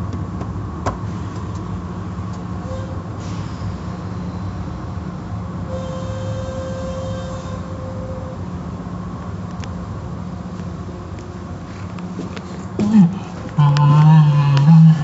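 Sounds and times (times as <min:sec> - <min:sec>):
car wash machinery humming: 0:00.0 - 0:15.0.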